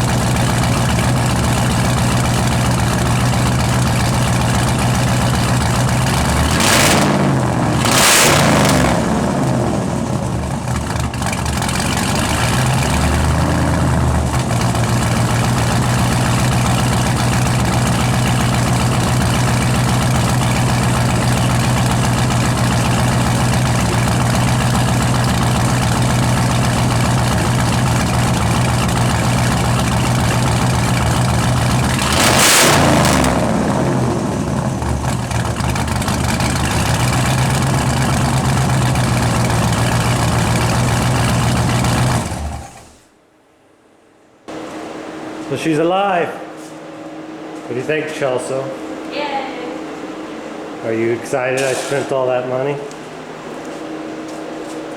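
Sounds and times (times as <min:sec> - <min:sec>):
car engine idling: 0:00.0 - 0:43.2, 0:46.8 - 0:54.9
engine throttle blips: 0:00.0 - 0:43.2, 0:44.5 - 0:54.9.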